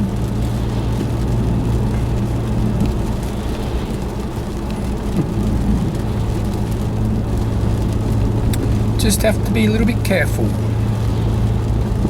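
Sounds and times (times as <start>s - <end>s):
car driving drone: 0.0s - 12.0s.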